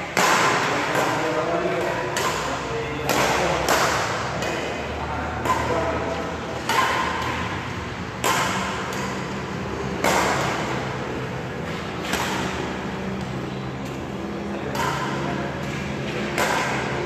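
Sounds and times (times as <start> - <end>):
rackets striking shuttlecock: 0.0 - 17.0.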